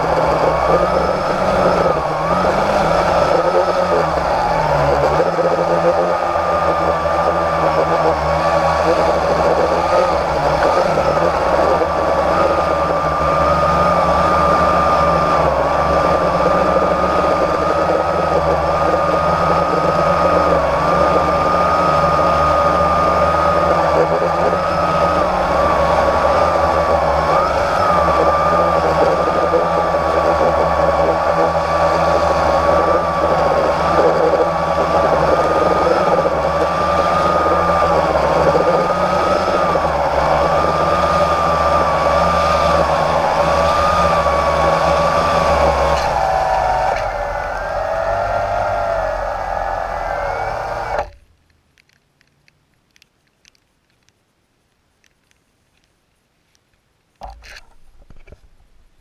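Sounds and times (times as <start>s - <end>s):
quadcopter motors buzzing: 0.0s - 51.2s
high motor whine: 0.0s - 51.3s.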